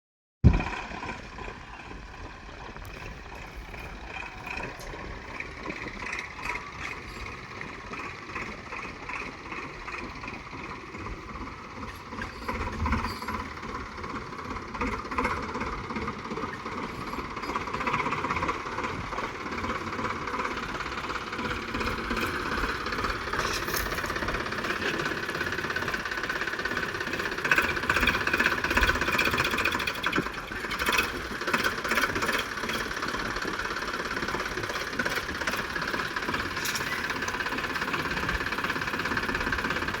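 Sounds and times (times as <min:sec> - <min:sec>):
diesel tractor engine knocking: 0:00.5 - 0:40.0.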